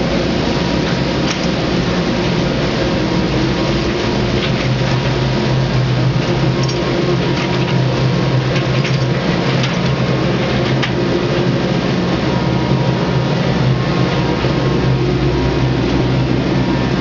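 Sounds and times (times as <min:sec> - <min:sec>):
boat engine droning: 0:00.0 - 0:17.0
water rushing between hulls: 0:00.0 - 0:17.0.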